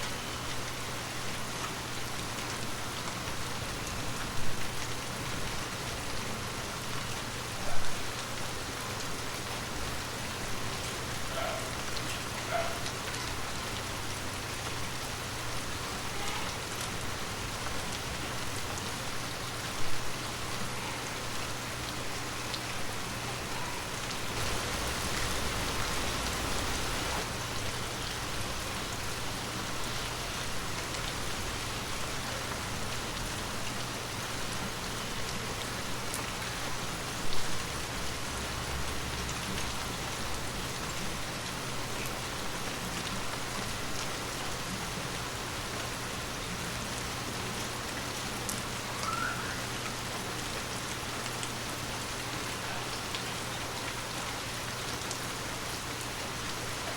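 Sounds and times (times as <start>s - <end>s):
heavy rain falling: 0.0s - 56.9s.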